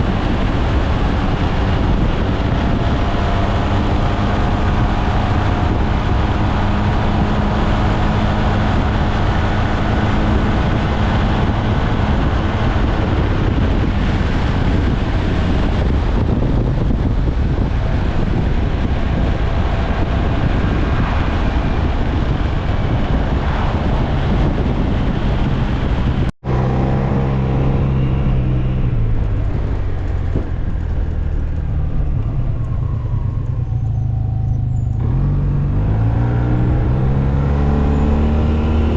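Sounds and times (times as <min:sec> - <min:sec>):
road noise: 0:00.0 - 0:38.9
wind noise: 0:00.0 - 0:38.9.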